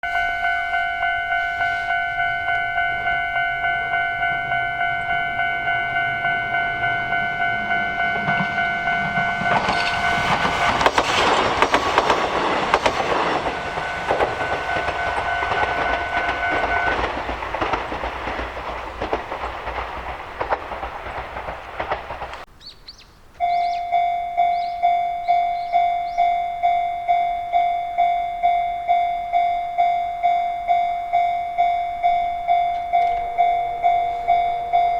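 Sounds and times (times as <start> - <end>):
railroad crossing bell ringing: 0.0 - 22.5, 23.3 - 34.9
electric train passing: 0.0 - 34.9.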